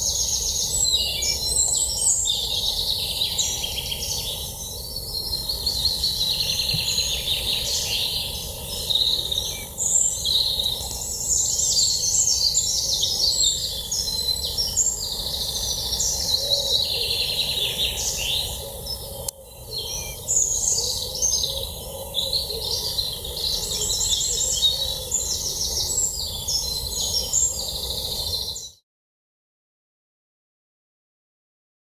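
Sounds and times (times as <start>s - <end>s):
birds singing and chirping: 0.0s - 28.8s.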